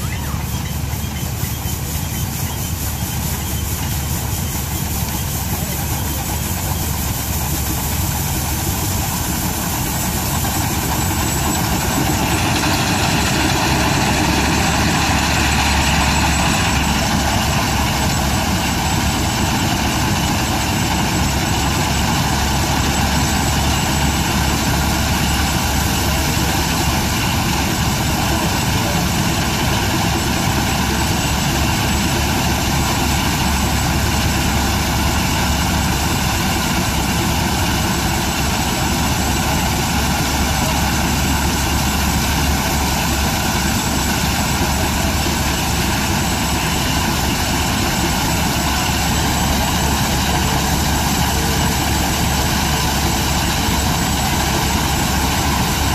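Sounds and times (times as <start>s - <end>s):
threshing machine whirring: 0.0s - 55.9s.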